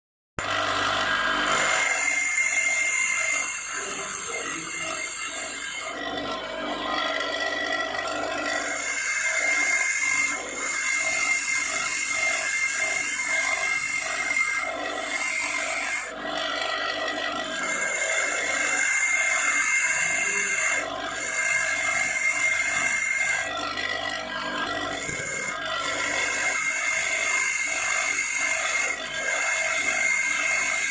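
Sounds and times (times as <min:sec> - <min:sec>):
grinding wheel grinding steel: 0:00.4 - 0:30.9.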